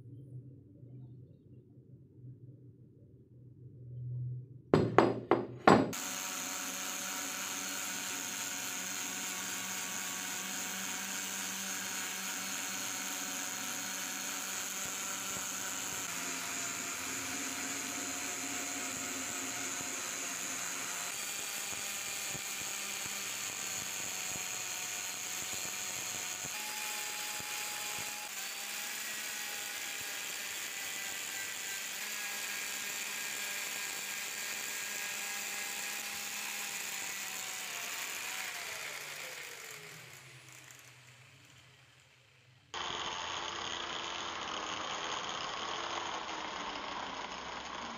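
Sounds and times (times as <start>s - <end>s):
angle grinder whining: 4.8s - 47.9s
grinder winding down: 5.0s - 47.9s.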